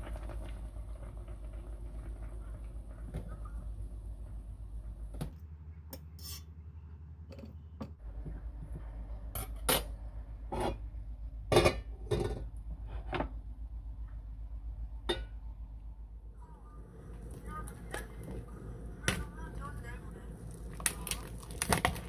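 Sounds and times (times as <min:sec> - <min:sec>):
steady low hum: 0:00.4 - 0:21.8.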